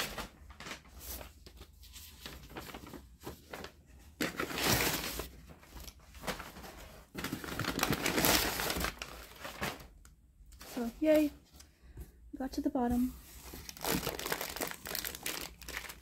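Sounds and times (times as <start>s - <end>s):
packing paper rustling: 0.0s - 11.4s, 13.2s - 16.0s.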